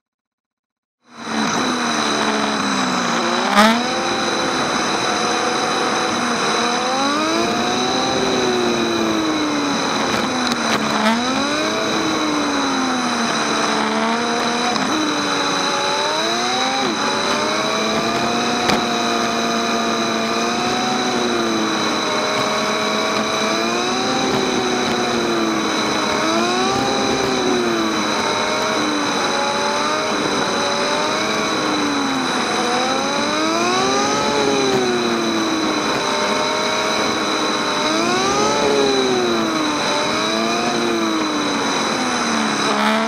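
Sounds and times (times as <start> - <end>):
motorcycle engine revving: 1.0 - 43.0
wet road noise: 1.2 - 43.0.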